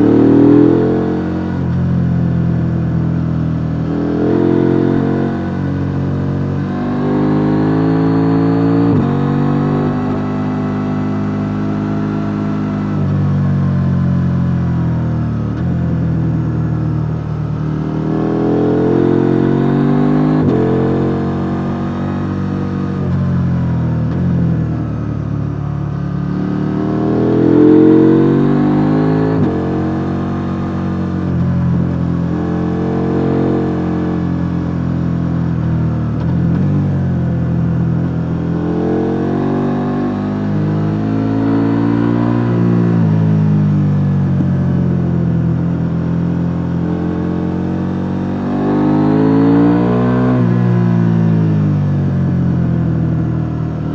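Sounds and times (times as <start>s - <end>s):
motorcycle engine revving: 0.0s - 2.7s, 3.6s - 16.5s, 17.2s - 53.9s.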